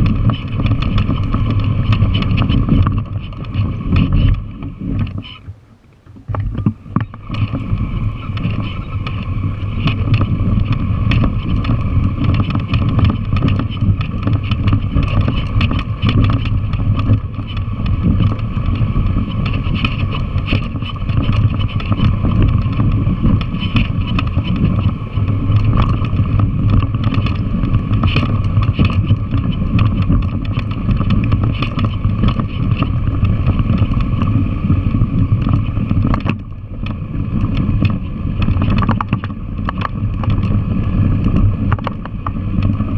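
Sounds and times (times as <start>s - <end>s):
motorcycle engine running: 0.0s - 42.9s
motorcycle rattling: 0.0s - 42.9s.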